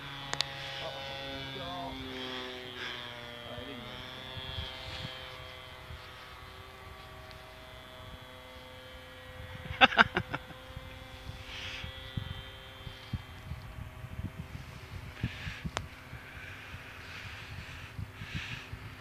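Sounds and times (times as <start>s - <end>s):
model airplane motor whine: 0.0s - 19.0s.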